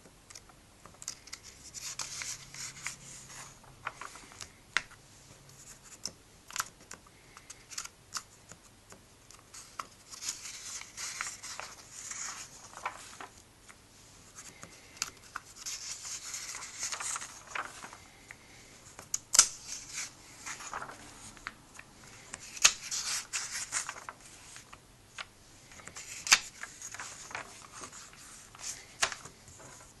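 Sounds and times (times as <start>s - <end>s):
pages snapping over: 0.3s - 4.9s, 9.3s - 13.8s, 14.4s - 29.9s
paper pages rustling: 0.3s - 4.9s, 9.3s - 30.0s.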